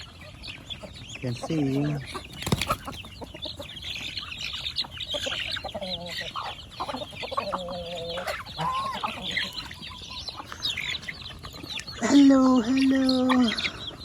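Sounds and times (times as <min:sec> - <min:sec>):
poultry clucking and calling: 0:00.0 - 0:14.0.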